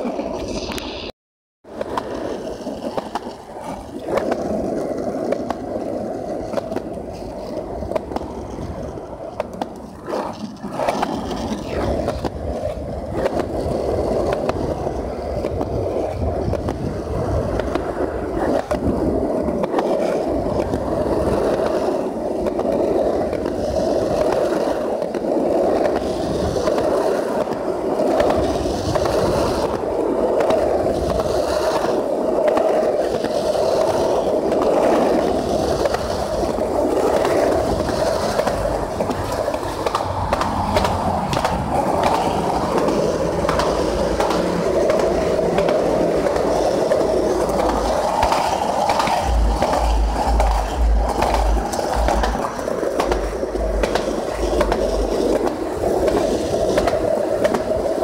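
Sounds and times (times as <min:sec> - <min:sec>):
skateboard wheels rolling on concrete: 0:00.0 - 0:58.0.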